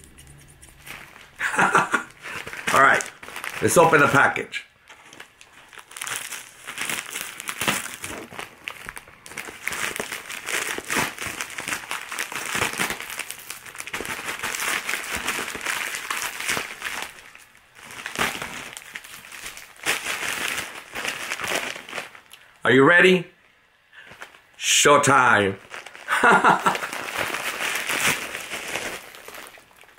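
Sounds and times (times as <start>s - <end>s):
plastic mailer bag crinkling: 0.7s - 22.4s, 25.6s - 29.9s.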